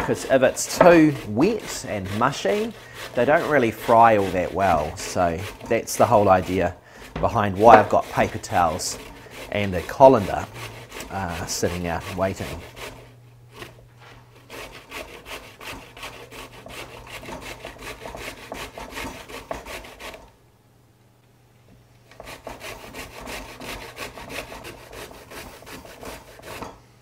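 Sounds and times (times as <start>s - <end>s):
sweet potato grating on metal grater: 0.0s - 13.8s, 14.4s - 20.3s, 22.1s - 26.7s.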